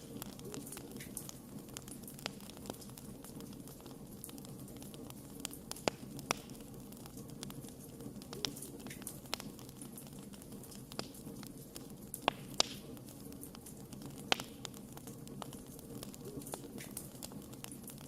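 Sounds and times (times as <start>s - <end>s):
campfire rumbling: 0.0s - 18.0s
fire crackling: 0.0s - 18.0s.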